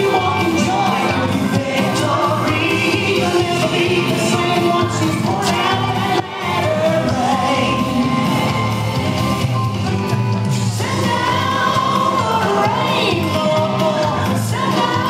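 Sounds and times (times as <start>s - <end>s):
country song with steady beat: 0.0s - 15.0s.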